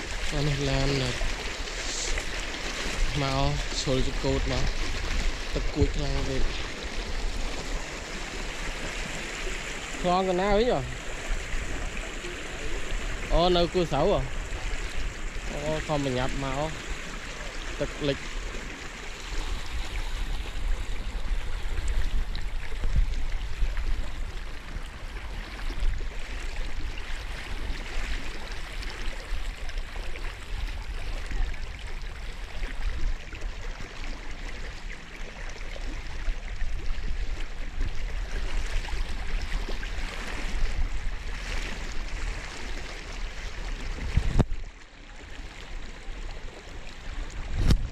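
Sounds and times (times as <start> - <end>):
water sloshing around wading feet: 0.0 - 47.9.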